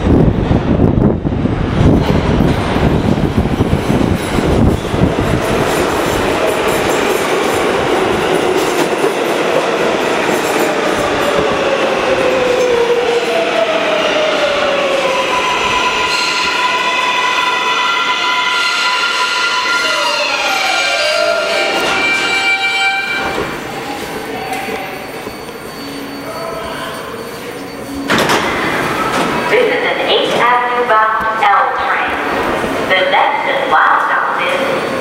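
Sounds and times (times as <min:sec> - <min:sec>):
subway train rumble and wheel clatter: 0:00.0 - 0:35.0.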